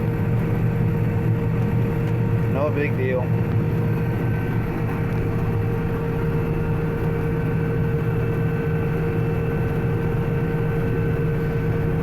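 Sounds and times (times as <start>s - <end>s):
combine harvester low drone: 0.0s - 12.0s.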